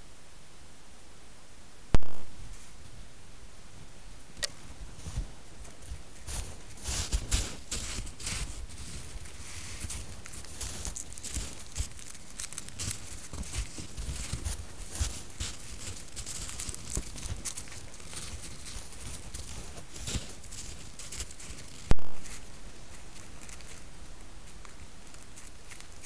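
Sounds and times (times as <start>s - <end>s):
hooves crunching in snow: 3.8s - 26.0s.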